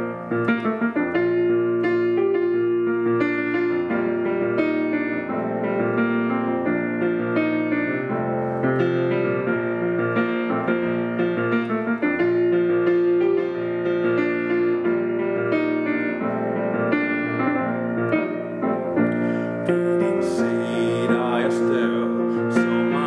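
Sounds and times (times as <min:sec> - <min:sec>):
solo piano hymn: 0:00.0 - 0:23.0.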